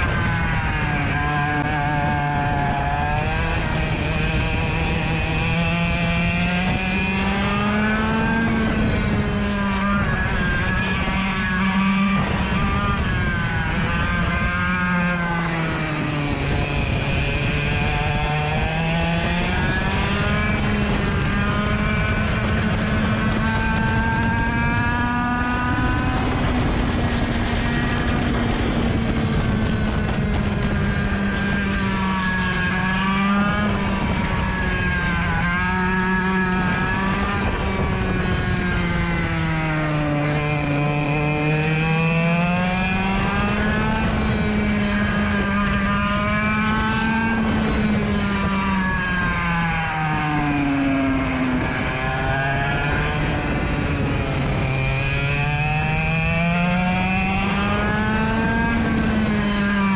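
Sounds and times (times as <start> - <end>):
another kart engine: 0.0 - 59.9
kart engine revving: 0.0 - 59.9.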